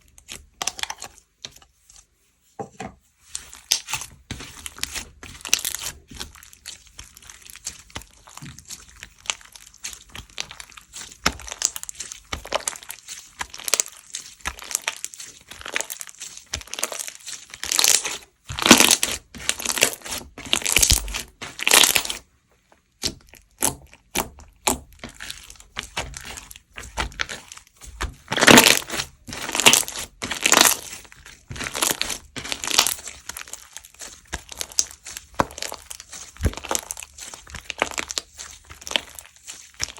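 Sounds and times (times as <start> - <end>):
slime squished by hand: 3.3 - 22.2, 22.9 - 39.9
foam beads crackling and popping: 4.6 - 22.2, 25.0 - 39.9.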